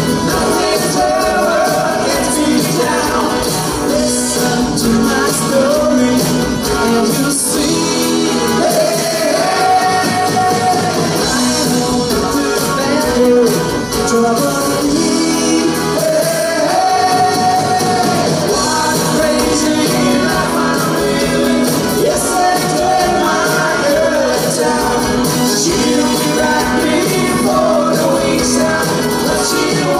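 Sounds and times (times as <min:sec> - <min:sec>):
pop-rock band playing: 0:00.0 - 0:29.9.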